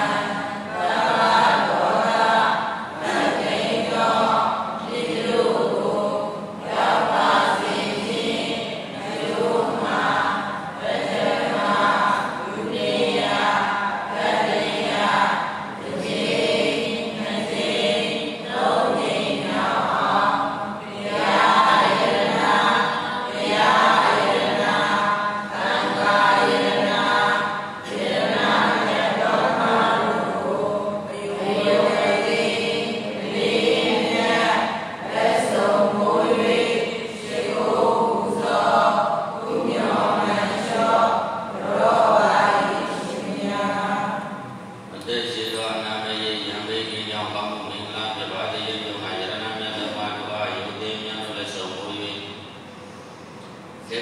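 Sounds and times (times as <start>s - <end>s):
voices chanting: 0.0s - 52.1s.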